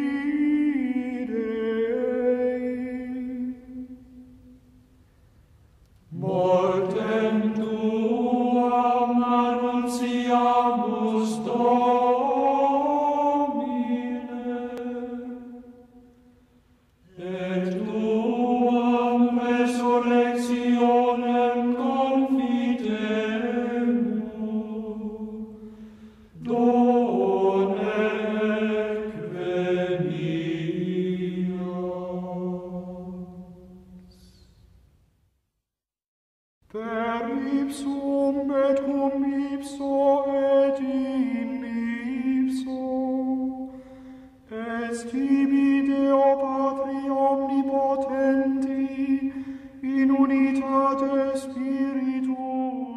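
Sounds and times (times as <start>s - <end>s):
slow sung chant: 0.0s - 34.9s, 36.6s - 52.9s.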